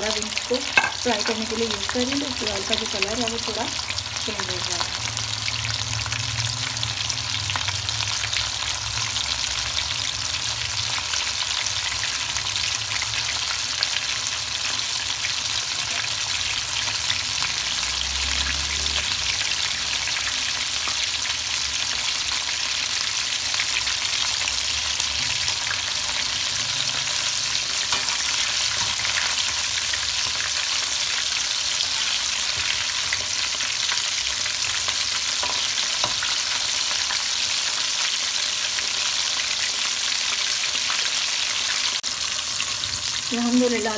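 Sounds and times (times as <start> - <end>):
chicken deep-frying in oil: 0.0 - 43.9.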